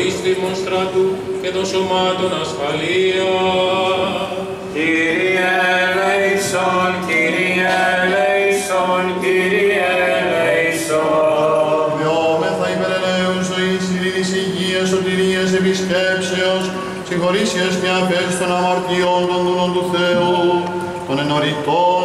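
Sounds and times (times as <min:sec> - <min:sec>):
men chanting melody: 0:00.0 - 0:22.0.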